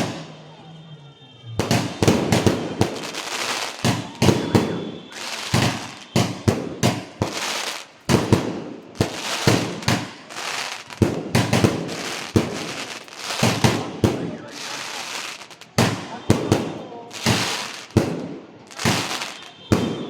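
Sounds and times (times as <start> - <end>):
fireworks bangs: 0.0 - 0.5, 1.5 - 20.0.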